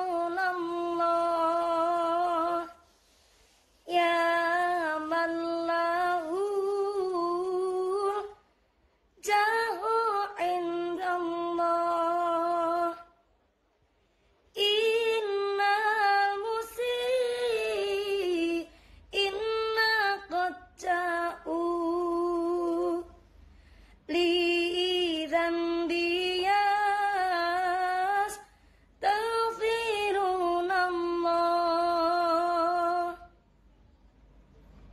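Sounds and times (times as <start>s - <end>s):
woman singing unaccompanied: 0.0s - 2.9s, 3.8s - 8.4s, 9.2s - 13.2s, 14.5s - 23.2s, 24.1s - 33.4s.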